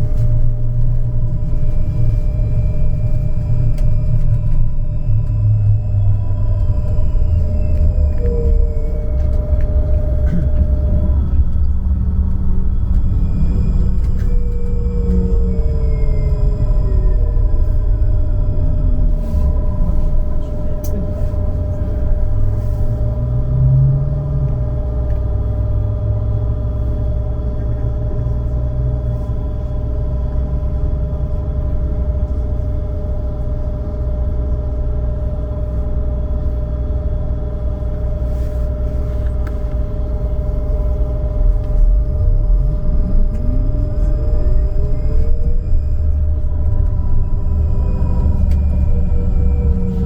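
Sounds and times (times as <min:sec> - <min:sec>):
electric hum: 0:00.0 - 0:50.0
trolleybus low rumble: 0:00.0 - 0:50.0.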